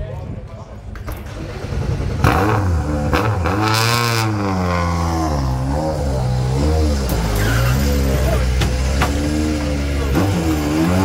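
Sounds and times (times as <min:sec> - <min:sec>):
car engine revving: 0:01.1 - 0:11.0.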